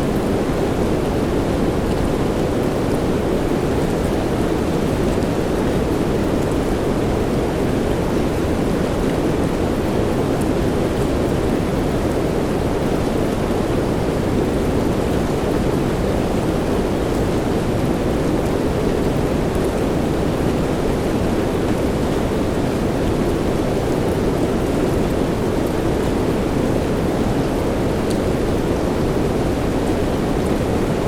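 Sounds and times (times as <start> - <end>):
muffled steady rain: 0.0 - 31.0.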